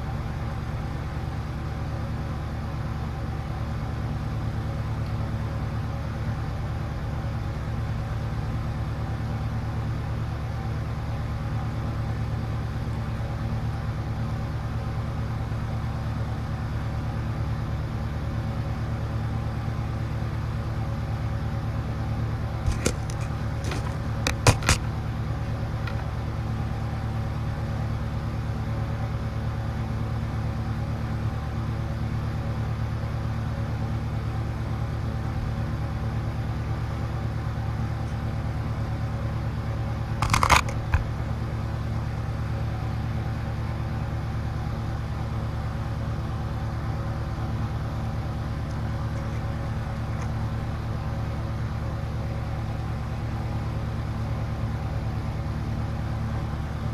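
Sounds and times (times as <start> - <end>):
electrical hum: 0.0 - 56.9.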